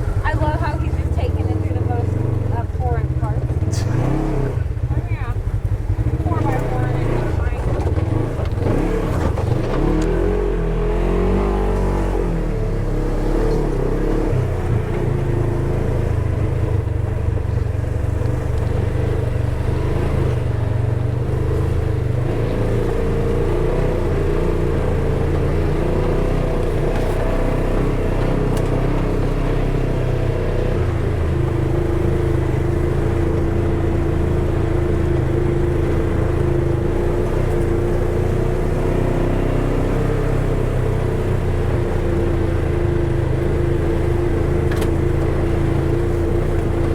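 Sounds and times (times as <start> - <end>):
side-by-side engine running: 0.0 - 46.9.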